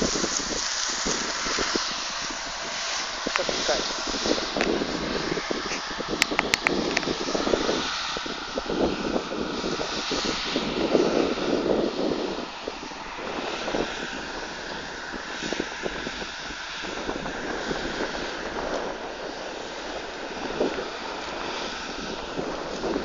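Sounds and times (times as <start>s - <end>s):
steady mechanical drone: 0.0s - 23.0s
wind buffeting microphone: 0.0s - 23.0s.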